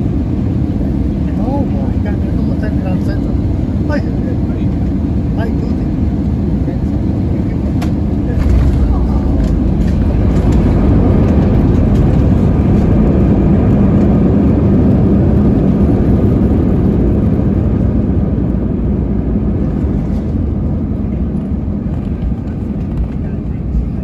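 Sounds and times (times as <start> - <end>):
jet engine and airflow rumble: 0.0 - 24.0.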